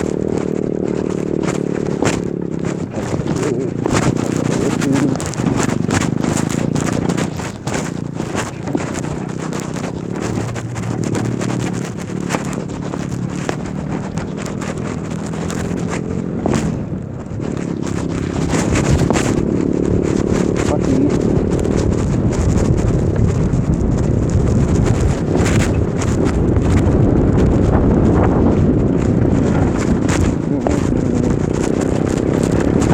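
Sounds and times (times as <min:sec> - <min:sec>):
electric bike motor hum: 0:00.0 - 0:32.9
rattling clicks and knocks: 0:00.0 - 0:32.9
wind on microphone: 0:00.0 - 0:32.9.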